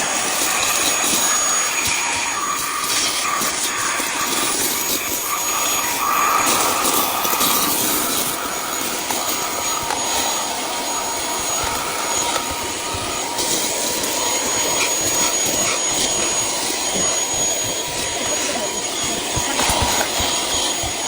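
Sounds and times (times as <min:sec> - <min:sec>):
handheld vacuum cleaner running: 0:00.0 - 0:21.0.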